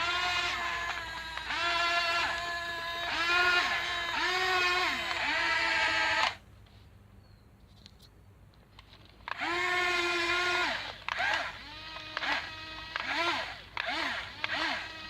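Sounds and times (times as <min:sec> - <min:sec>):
electric motors whining: 0:00.0 - 0:06.4, 0:09.2 - 0:15.0
small clicks: 0:00.0 - 0:06.8, 0:07.6 - 0:15.0.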